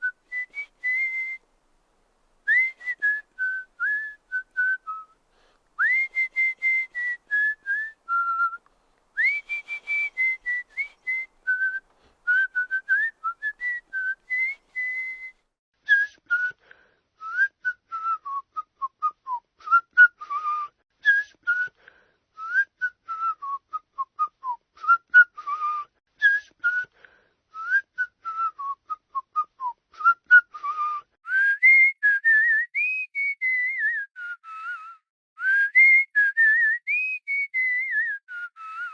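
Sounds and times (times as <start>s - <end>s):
person whistling a tune: 0.0s - 1.4s, 2.5s - 5.2s, 5.8s - 38.9s.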